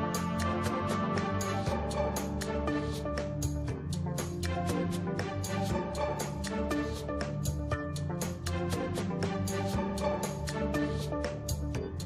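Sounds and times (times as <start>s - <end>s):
instrumental music with held notes: 0.0s - 12.0s
ticking beat: 0.0s - 12.0s.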